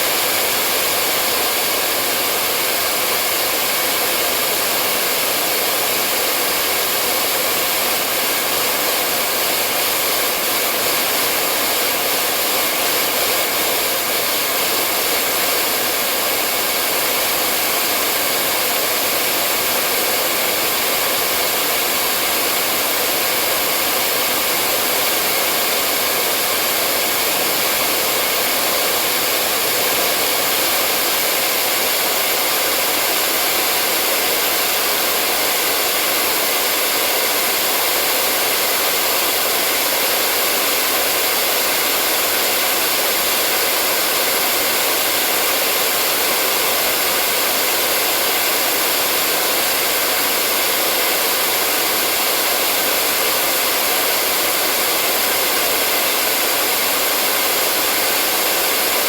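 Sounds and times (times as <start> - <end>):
hair dryer whooshing: 0.0 - 59.0.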